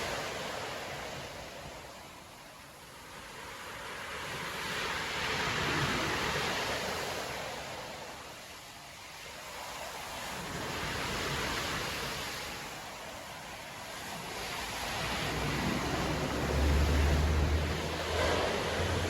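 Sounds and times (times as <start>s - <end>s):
surf waves crashing: 0.0s - 19.0s.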